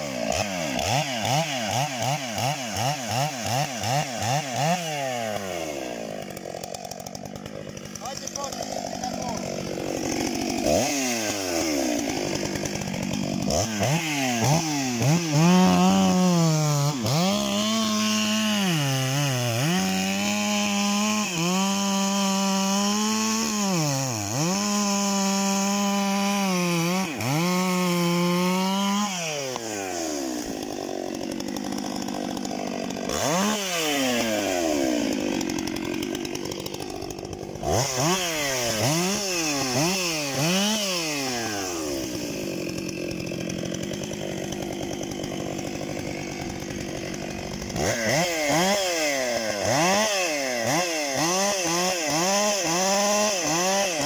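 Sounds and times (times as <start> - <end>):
chainsaw cutting wood: 0.0 - 54.0
chainsaw revving: 0.0 - 54.0.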